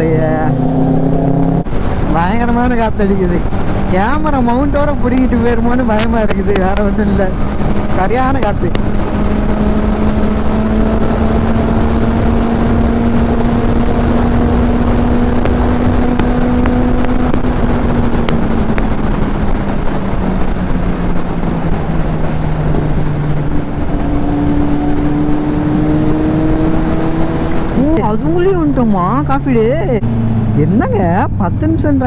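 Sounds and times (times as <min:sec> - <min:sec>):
motorcycle engine cruising: 0:00.0 - 0:32.0
wind buffeting on microphone: 0:00.0 - 0:32.0.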